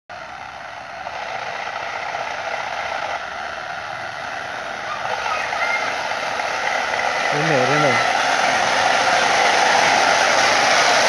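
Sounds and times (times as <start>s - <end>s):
high whine rising in pitch: 0.1s - 11.0s
motorcycle engine running: 0.1s - 11.0s.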